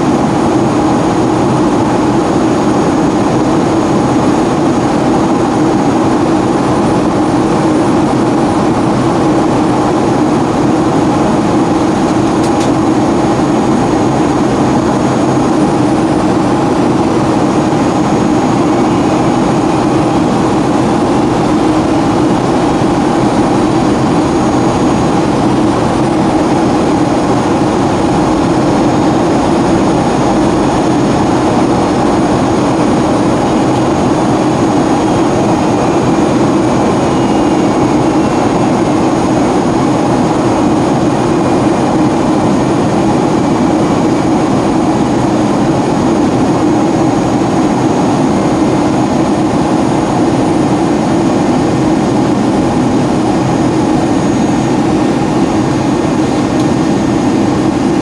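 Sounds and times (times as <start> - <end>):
faint high whine: 0.0 - 58.0
jet engine drone in cabin: 0.0 - 58.0.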